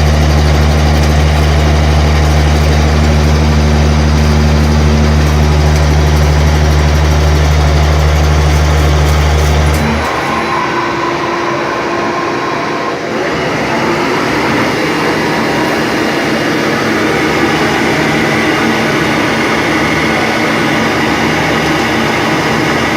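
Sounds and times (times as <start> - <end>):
lathe mechanical hum and hiss: 0.0 - 22.9.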